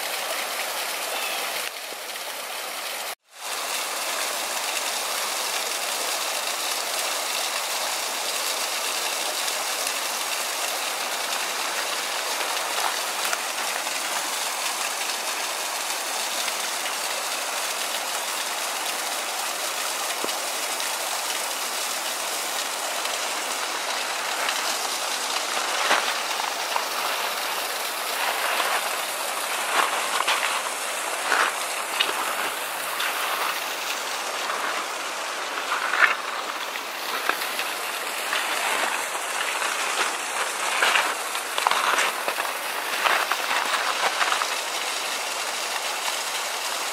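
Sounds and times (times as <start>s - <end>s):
creek and waterfall rushing: 0.0s - 46.9s.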